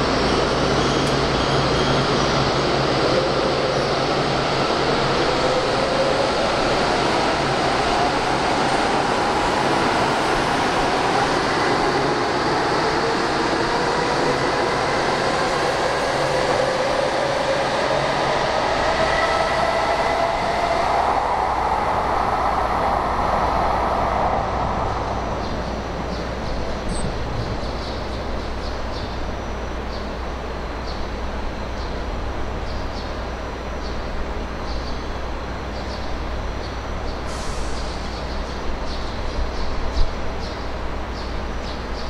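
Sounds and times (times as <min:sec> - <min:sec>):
train running noise: 0:00.0 - 0:42.0.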